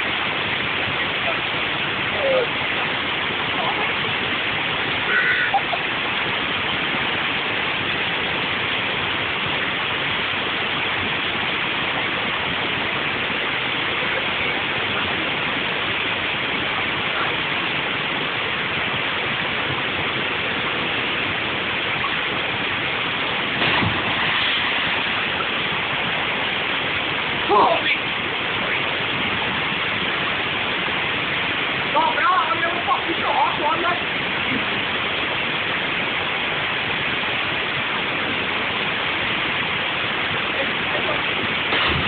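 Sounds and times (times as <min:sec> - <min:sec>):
running water rushing: 0:00.0 - 0:42.0.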